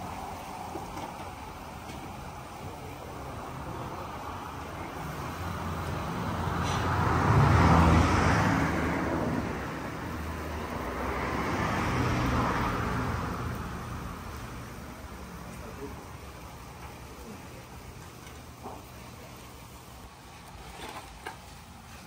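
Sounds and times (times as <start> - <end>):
vehicles passing by: 0.0 - 22.0.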